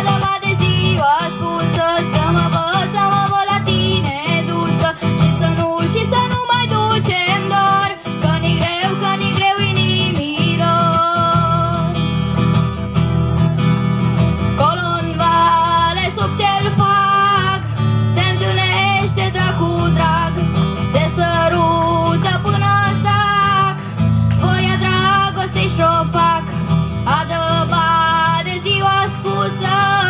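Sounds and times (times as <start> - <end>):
person singing: 0.0 - 12.0, 14.6 - 30.0
guitar: 0.0 - 30.0
live band over loudspeakers: 0.0 - 30.0.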